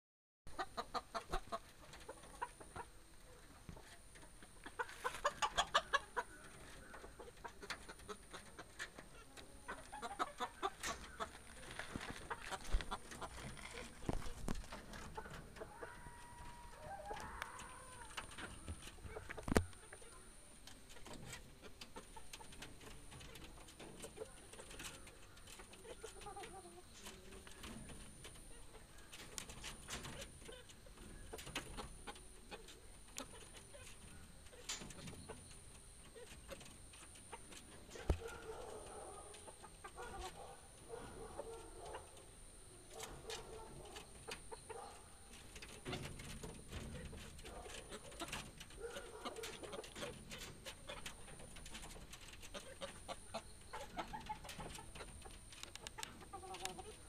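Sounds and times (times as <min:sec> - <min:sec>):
chickens clucking: 0:00.5 - 0:57.0.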